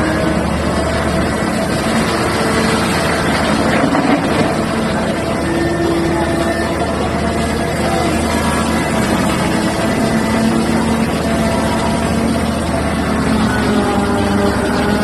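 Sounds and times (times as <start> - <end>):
heavy diesel engine drone: 0.0 - 15.0
hydraulic whining: 0.0 - 15.0.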